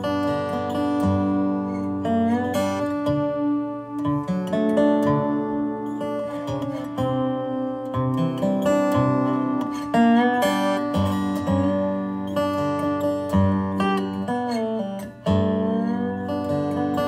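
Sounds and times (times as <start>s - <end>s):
slide guitar plucked notes: 0.0s - 17.0s.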